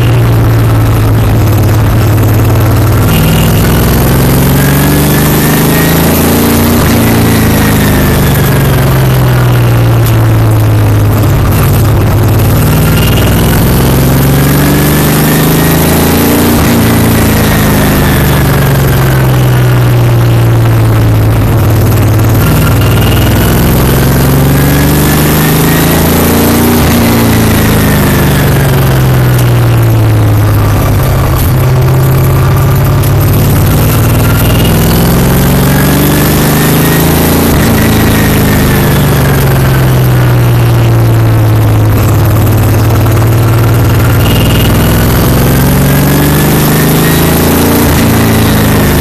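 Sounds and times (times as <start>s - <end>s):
race car engine: 0.0s - 49.0s.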